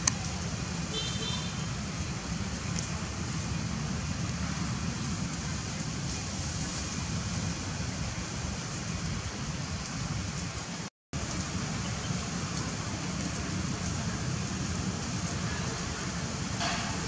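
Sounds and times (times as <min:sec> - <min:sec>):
low outdoor rumble and hiss: 0:00.0 - 0:17.0.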